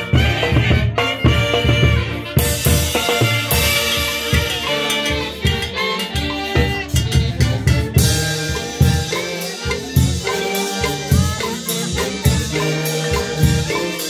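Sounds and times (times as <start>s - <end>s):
saxophones playing dance tune: 0.0s - 14.0s
steady drum beat: 0.0s - 14.0s.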